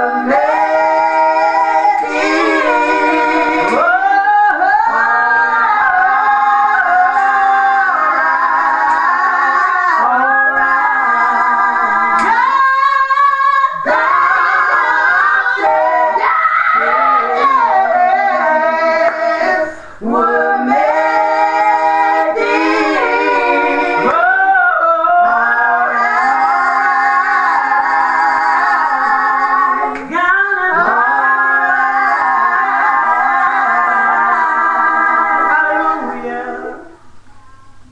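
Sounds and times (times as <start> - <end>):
woman singing gospel: 0.0 - 37.0.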